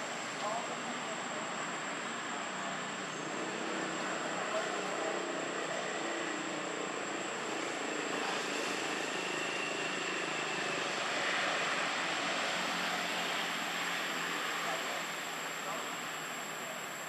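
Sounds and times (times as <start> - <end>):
high-pitched whine: 3.1 - 17.0.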